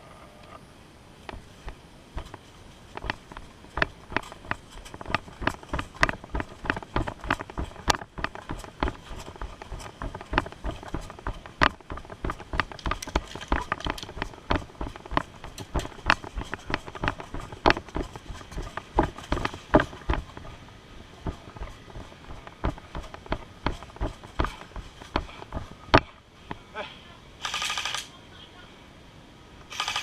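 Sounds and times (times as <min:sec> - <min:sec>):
quick footsteps: 0:01.2 - 0:26.2.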